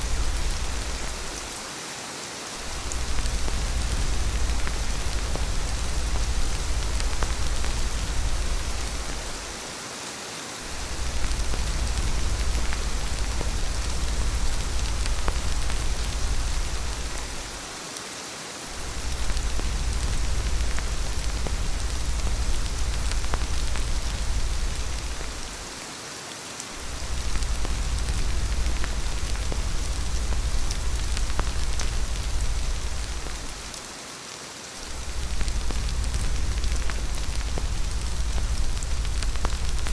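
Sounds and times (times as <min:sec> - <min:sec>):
deep low rumble: 0:00.0 - 0:01.4, 0:02.7 - 0:09.6, 0:10.7 - 0:17.6, 0:18.8 - 0:25.6, 0:26.8 - 0:33.7, 0:34.9 - 0:39.9
rain falling: 0:00.0 - 0:39.9.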